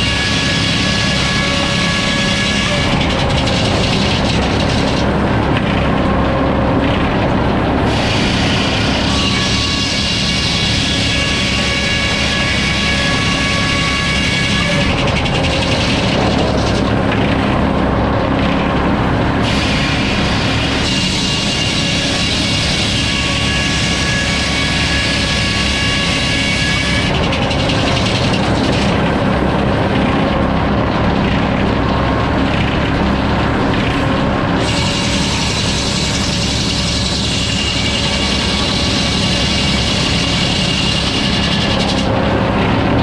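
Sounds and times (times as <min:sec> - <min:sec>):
sawmill sawing lumber: 0:00.0 - 0:43.0.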